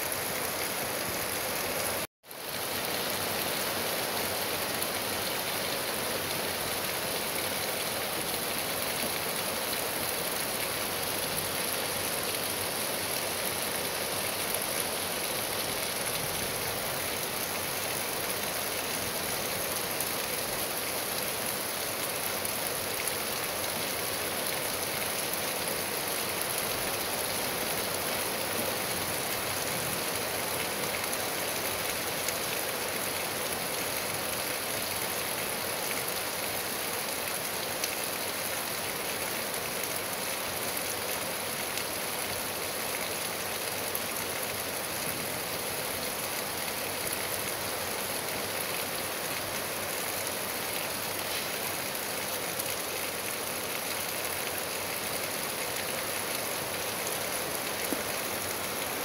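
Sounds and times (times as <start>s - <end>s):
rain on trees and grass: 0.0s - 59.0s.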